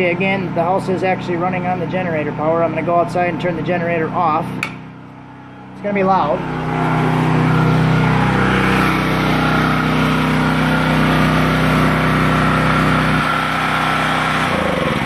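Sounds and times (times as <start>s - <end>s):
generator running: 0.0s - 15.0s.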